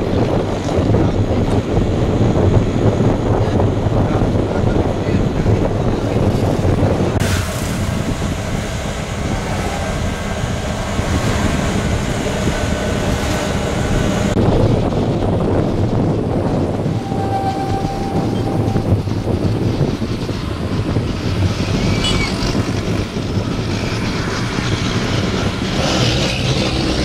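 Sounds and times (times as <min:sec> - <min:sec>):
auto-rickshaw engine rumble: 0:00.0 - 0:27.0
wind on microphone: 0:00.0 - 0:27.0.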